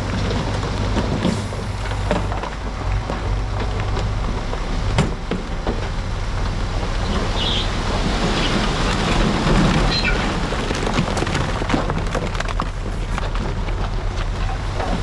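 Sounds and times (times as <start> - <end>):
diesel engine low rumble: 0.0 - 15.0
loose rock sliding and clattering: 0.0 - 15.0.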